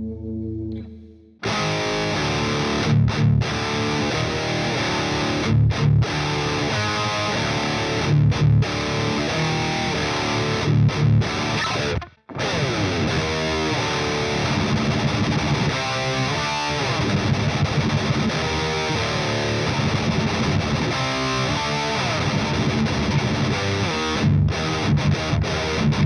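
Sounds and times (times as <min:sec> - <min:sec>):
distorted electric guitar riffing: 0:00.0 - 0:26.0.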